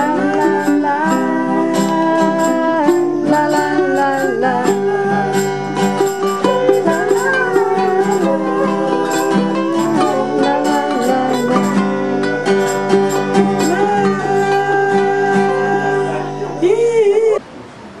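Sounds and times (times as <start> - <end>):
plucked strings: 0.0 - 17.0
rattling percussion beat: 0.6 - 15.2.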